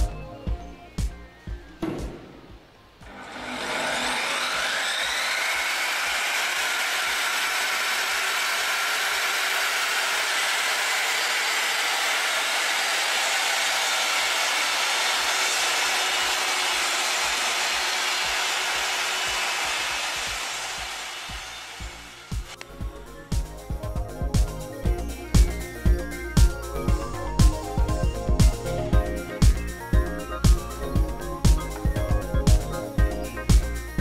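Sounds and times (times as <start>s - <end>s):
mitre saw motor whining: 3.0s - 34.0s.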